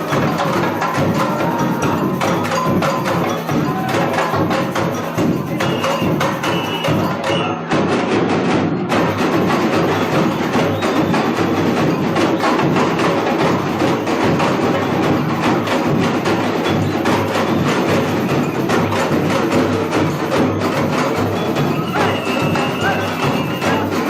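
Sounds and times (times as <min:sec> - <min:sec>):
samba drumming: 0:00.0 - 0:24.0
snare drums: 0:00.0 - 0:24.0.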